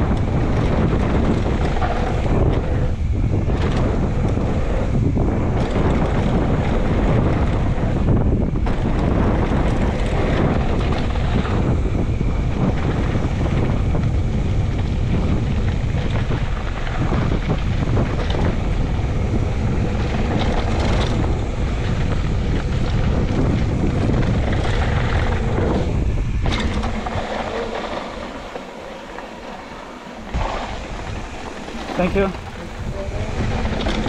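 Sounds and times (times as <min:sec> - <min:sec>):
bike rattling on trail: 0:00.0 - 0:34.0
wind buffeting microphone: 0:00.0 - 0:34.0.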